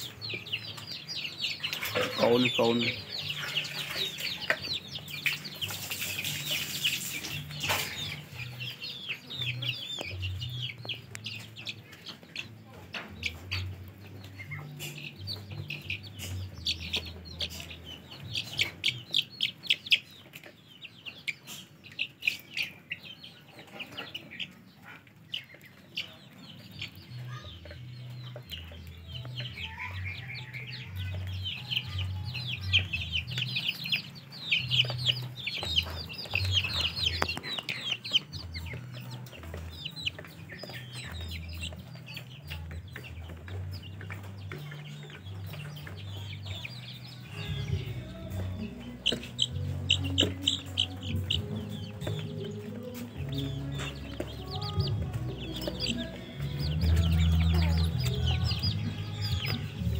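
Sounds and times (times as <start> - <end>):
chicks peeping and chirping: 0.0 - 59.9.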